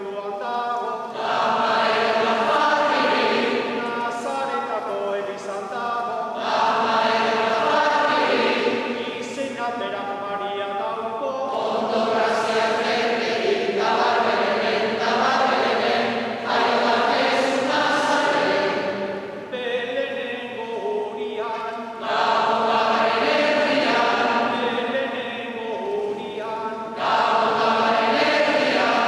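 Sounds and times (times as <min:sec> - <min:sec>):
mixed choir singing carol: 0:00.0 - 0:29.0.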